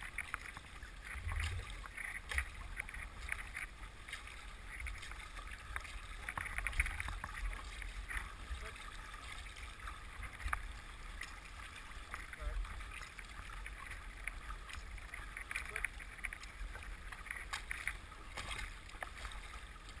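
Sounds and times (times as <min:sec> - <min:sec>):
river water rushing and splashing: 0:00.0 - 0:20.0
water slapping canoe hull: 0:00.0 - 0:20.0.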